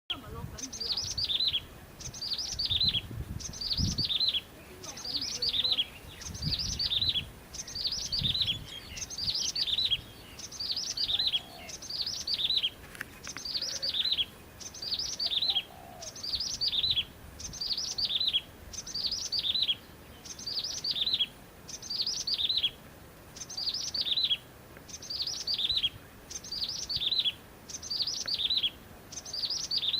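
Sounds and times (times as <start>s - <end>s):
small bird singing: 0.1s - 29.9s.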